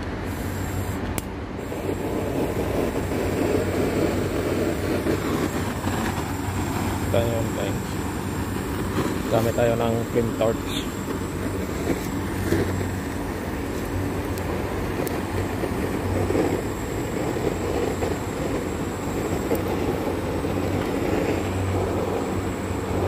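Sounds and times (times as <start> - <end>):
butane torch flame burning: 0.0 - 23.0.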